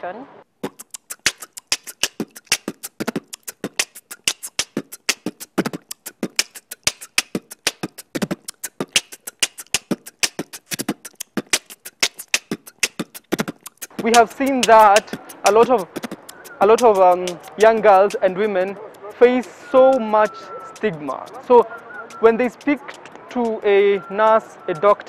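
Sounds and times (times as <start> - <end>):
fast dry percussion beat: 0.6 - 25.0.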